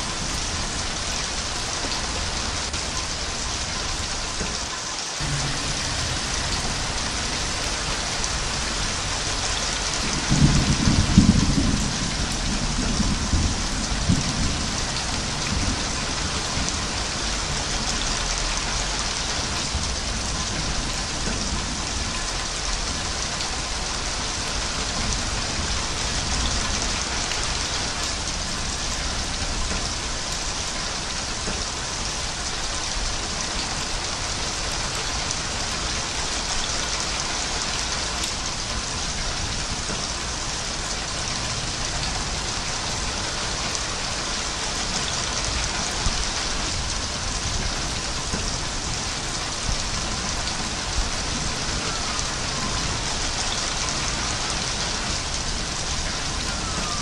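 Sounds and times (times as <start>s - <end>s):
thunder rumbling: 0.0s - 4.5s, 5.2s - 31.8s, 33.0s - 57.0s
heavy rain: 0.0s - 57.0s.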